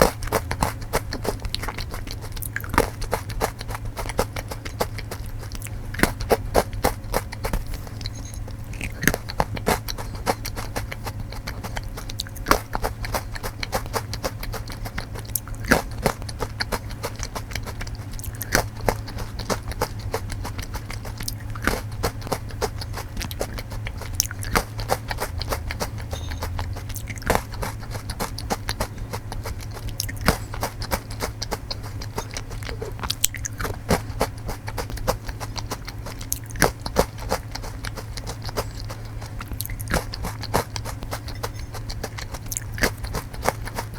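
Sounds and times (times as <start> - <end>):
crunching and chewing snacks: 0.0 - 43.9
steady low hum: 0.0 - 43.9.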